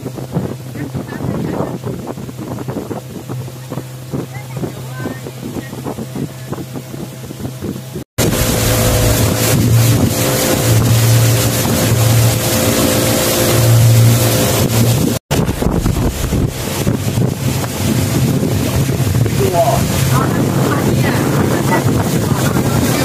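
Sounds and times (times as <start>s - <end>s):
boat motor running: 0.0s - 23.0s
wind buffeting microphone: 0.0s - 23.0s
water rushing past: 3.0s - 23.0s.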